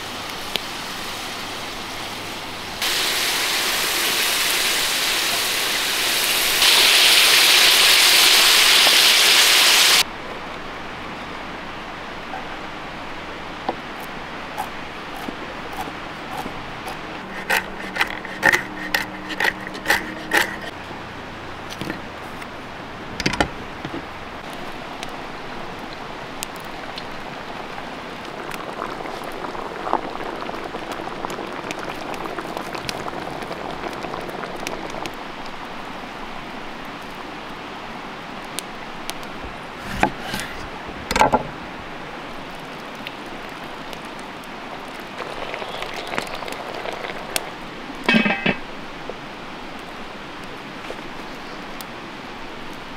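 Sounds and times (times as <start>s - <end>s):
stew simmering over wood fire: 0.0s - 52.9s.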